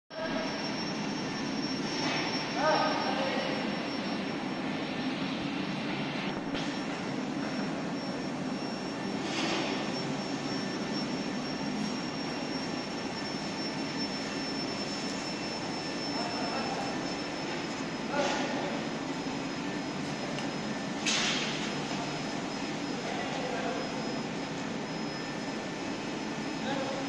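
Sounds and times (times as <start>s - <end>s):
high-pitched whine: 0.1s - 27.0s.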